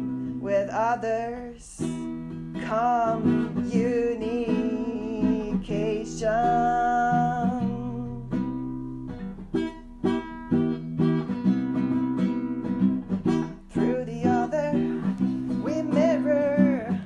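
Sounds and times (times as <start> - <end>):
plucked acoustic guitar music: 0.0 - 17.0.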